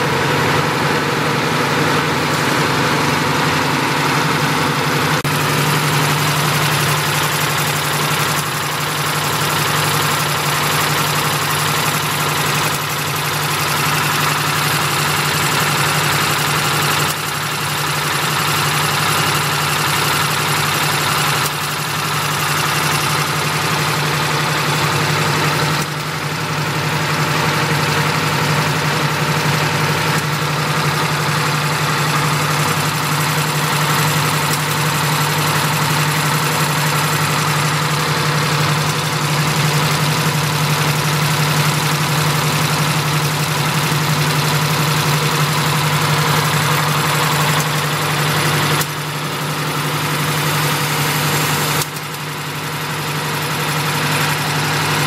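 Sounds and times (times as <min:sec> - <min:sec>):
paper folding machine running: 0:00.0 - 0:55.0.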